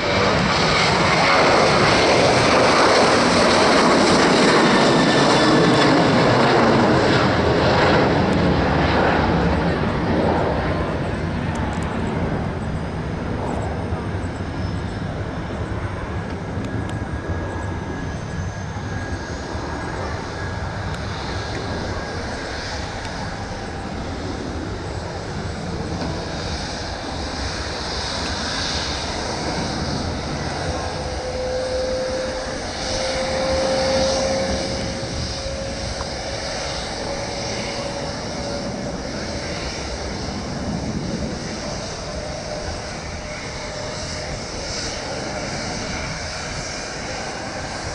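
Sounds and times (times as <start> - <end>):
jet engines of climbing airliner: 0.0 - 47.9.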